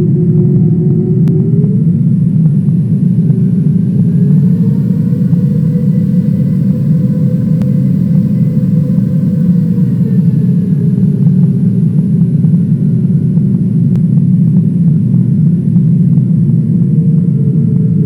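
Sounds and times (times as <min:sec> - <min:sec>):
aircraft engine cabin drone: 0:00.0 - 0:18.0
hum over drone: 0:00.0 - 0:18.0.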